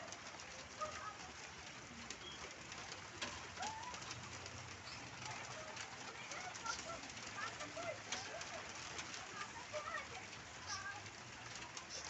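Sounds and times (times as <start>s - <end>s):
birds chirping and calling: 0.4s - 12.0s.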